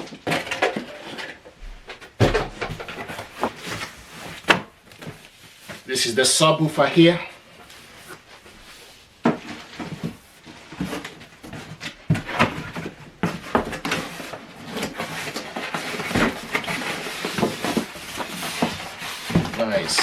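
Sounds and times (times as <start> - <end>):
packaging rustling: 0.0 - 5.9, 7.0 - 20.0.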